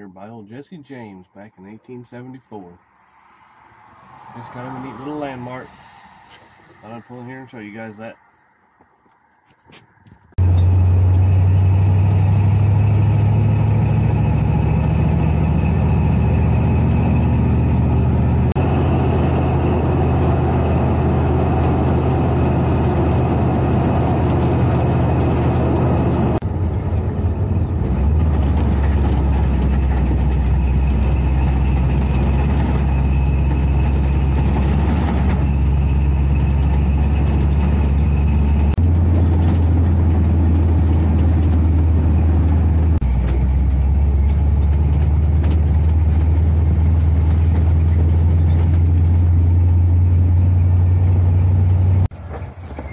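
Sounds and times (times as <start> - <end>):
road noise: 0.0 - 52.9
truck engine running: 10.4 - 52.9.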